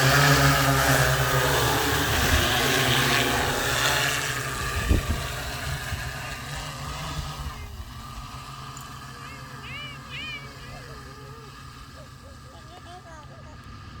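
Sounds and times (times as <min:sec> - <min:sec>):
drone rotors humming: 0:00.0 - 0:14.0.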